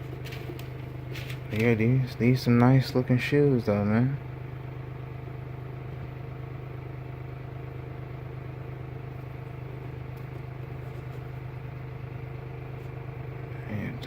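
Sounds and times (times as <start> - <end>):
steady low buzzing hum: 0.0 - 14.0.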